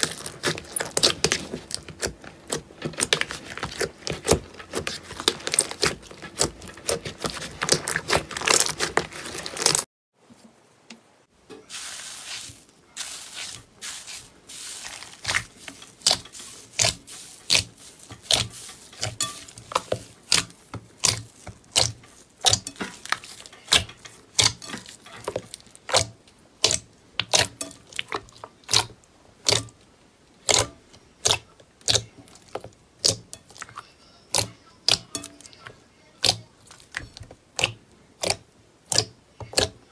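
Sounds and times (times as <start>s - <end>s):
slime crackling when kneaded: 0.0s - 9.9s, 11.8s - 29.7s, 30.4s - 39.9s
soft squelching: 0.0s - 9.9s, 11.5s - 39.9s.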